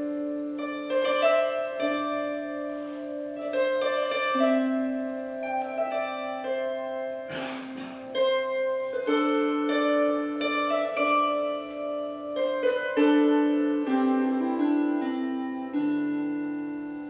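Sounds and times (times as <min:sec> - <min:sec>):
wire-strung harp plucked melody: 0:00.0 - 0:17.0.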